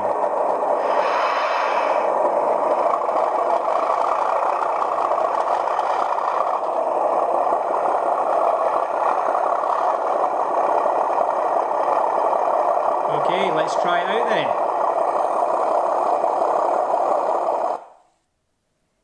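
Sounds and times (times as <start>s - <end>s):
diesel engine running through small speaker: 0.0s - 18.0s.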